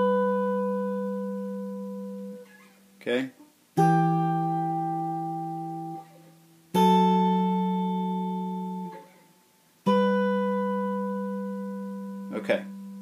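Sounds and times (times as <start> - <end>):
fingerpicked guitar chords: 0.0 - 13.0.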